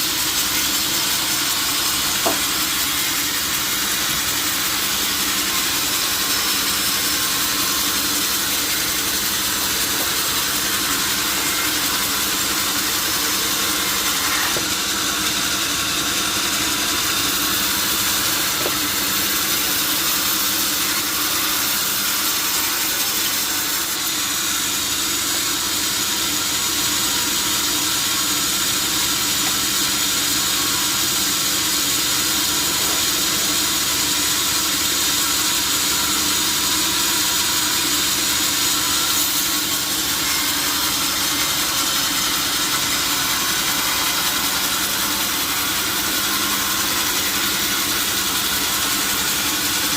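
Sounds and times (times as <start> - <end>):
powered saw cutting log: 0.0 - 49.9.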